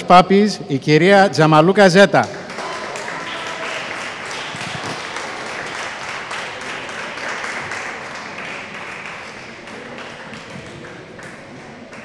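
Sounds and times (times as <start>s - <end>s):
audience applauding: 2.3s - 12.0s.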